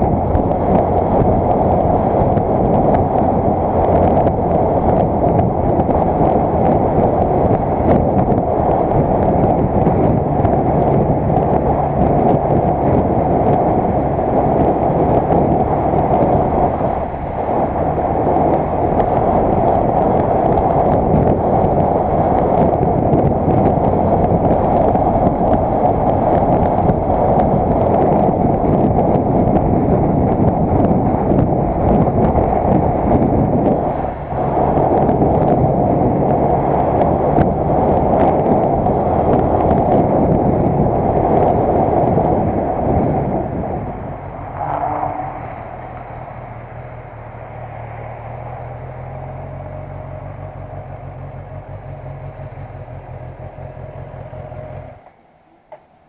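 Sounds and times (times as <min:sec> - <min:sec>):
motorcycle engine running: 0:00.0 - 0:47.6, 0:48.4 - 0:55.8
wind rushing on microphone: 0:00.0 - 0:56.0.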